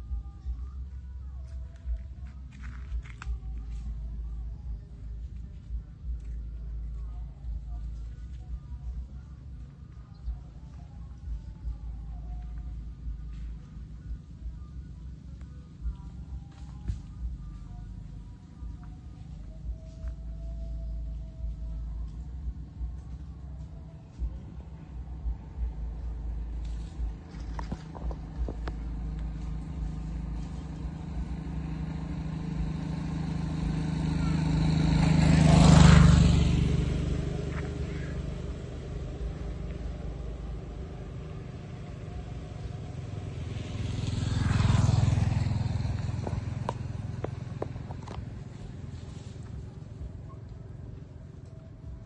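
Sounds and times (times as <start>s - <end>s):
steady low hum: 0.0s - 52.0s
vehicles passing by: 0.0s - 52.0s.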